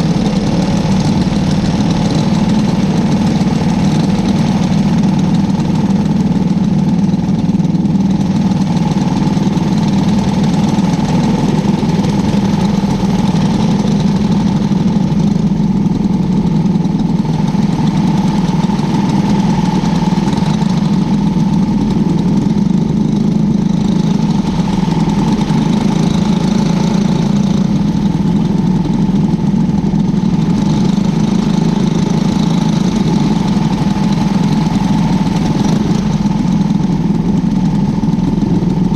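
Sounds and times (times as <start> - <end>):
race car engine running steadily: 0.0 - 38.9.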